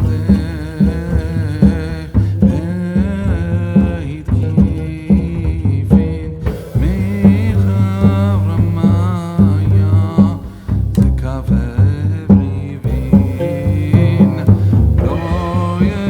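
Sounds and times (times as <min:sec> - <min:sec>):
music with beat and vocals: 0:00.0 - 0:16.0.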